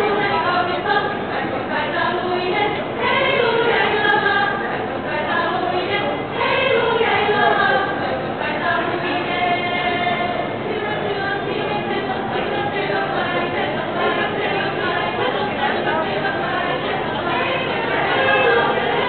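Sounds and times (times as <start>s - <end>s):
women's choir singing a cappella: 0.0s - 19.0s.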